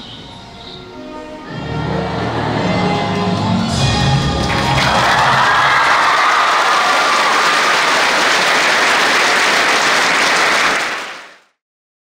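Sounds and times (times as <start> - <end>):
audience applauding: 1.9 - 11.6.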